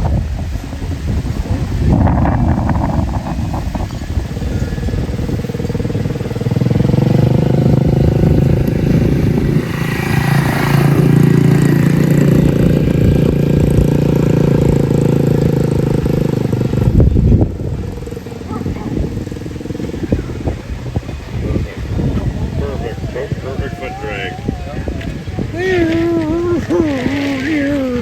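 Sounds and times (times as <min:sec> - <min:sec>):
mini bike engine revving: 0:00.0 - 0:28.0.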